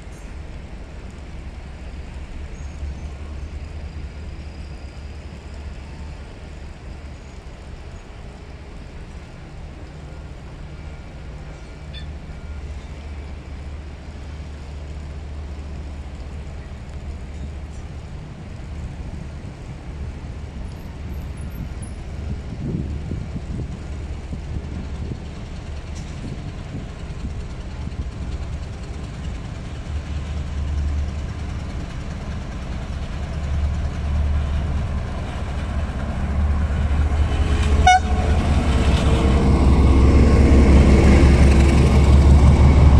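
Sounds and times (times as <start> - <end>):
diesel locomotive engine rumbling: 0.0 - 42.9.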